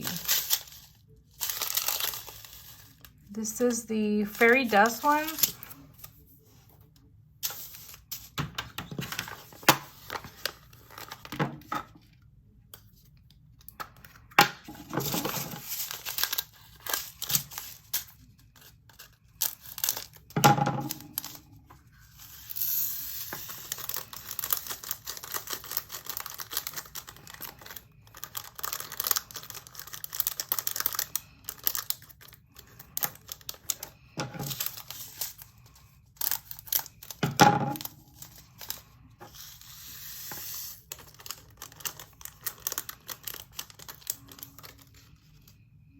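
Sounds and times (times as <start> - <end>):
plastic crinkling and tearing: 0.0 - 6.5, 7.4 - 11.3, 13.7 - 45.6
plastic rustling: 0.0 - 12.1, 13.8 - 45.6.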